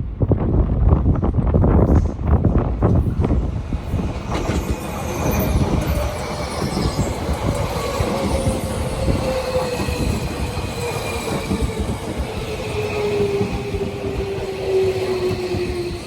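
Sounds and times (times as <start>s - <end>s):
train wheels rumbling on rail: 0.0s - 16.0s
train high whine: 1.8s - 16.0s.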